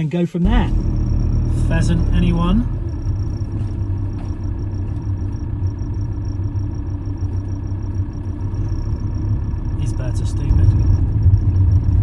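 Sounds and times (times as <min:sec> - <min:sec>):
engine running with low drone: 0:00.4 - 0:12.0.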